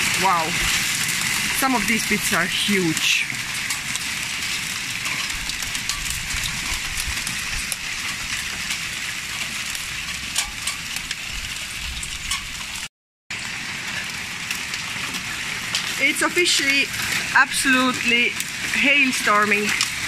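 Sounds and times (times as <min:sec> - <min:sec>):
hailstones pelting a roof: 0:00.0 - 0:20.0
sharp clicks of hailstones: 0:00.0 - 0:20.0.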